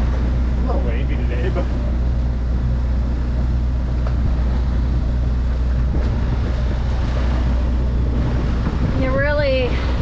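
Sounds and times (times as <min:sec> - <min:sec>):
boat engine humming: 0:00.0 - 0:10.0
water rushing: 0:00.0 - 0:10.0
wind rushing: 0:01.8 - 0:10.0.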